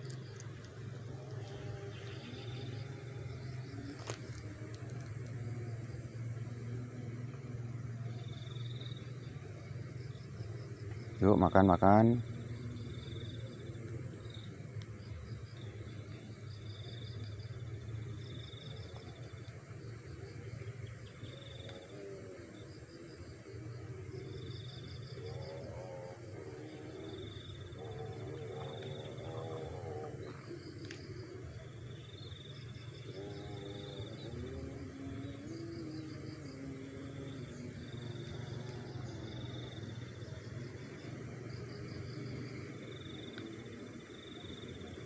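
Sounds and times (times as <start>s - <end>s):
crickets chirping: 0.0s - 45.0s
faint pitched sounds: 0.0s - 45.0s
high insect drone: 0.0s - 45.0s.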